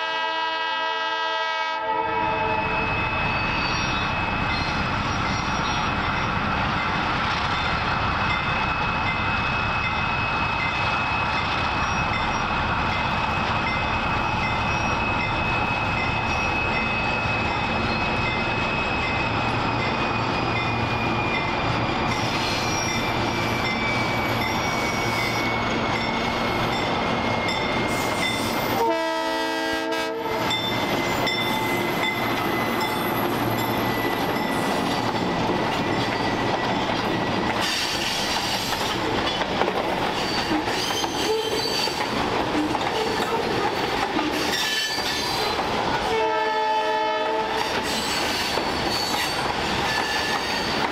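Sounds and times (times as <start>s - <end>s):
diesel locomotive passing: 0.0s - 50.9s
high wheel squeal: 2.3s - 6.6s, 7.6s - 28.8s, 30.4s - 39.0s, 40.0s - 45.6s, 47.6s - 50.9s.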